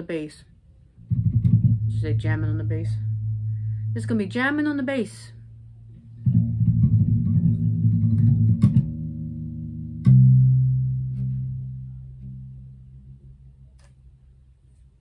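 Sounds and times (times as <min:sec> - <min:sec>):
electric bass guitar notes: 0:00.9 - 0:14.6.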